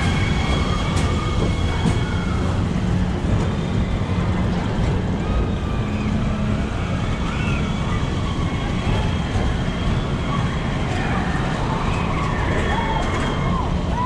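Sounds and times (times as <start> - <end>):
ride car rumbling along track: 0.0 - 14.0.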